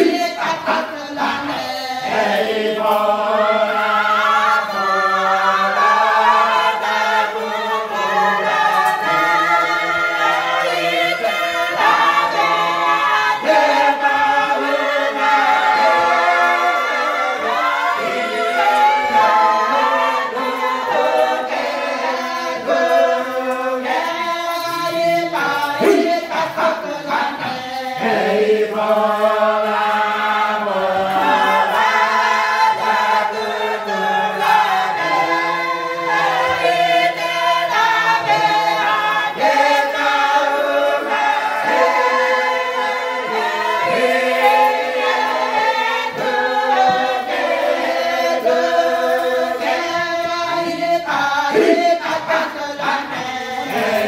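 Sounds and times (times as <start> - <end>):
group singing in harmony: 0.0 - 54.0.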